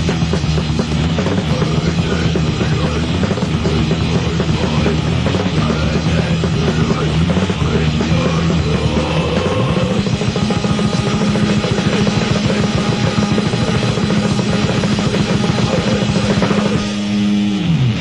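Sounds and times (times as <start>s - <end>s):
distorted electric guitar: 0.0s - 18.0s
fast heavy metal drumming: 0.0s - 18.0s.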